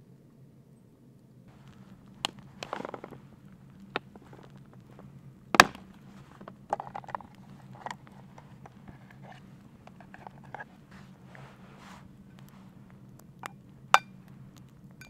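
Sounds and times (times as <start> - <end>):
campfire crackling: 0.2 - 15.0.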